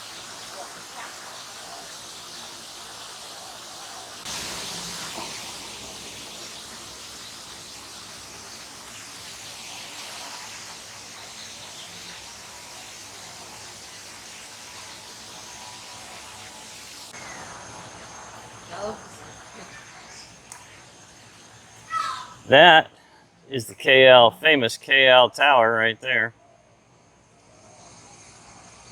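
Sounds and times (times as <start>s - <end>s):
steady outdoor hiss: 0.0s - 28.9s.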